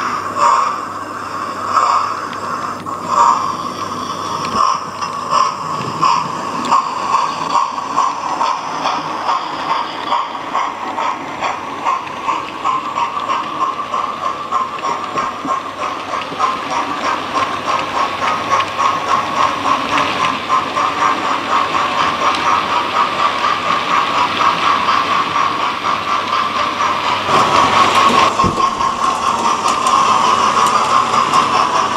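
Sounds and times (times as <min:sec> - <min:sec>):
model train wheels clicking: 0:00.0 - 0:31.9
model train whirring hum: 0:00.0 - 0:31.9.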